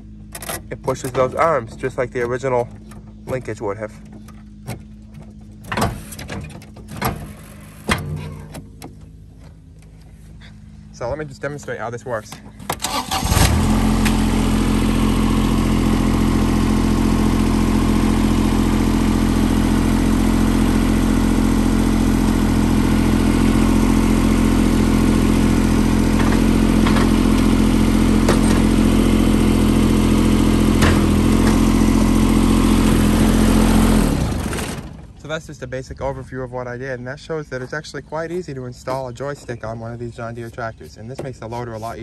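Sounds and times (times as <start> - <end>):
garden tractor engine running: 0.0 - 42.0.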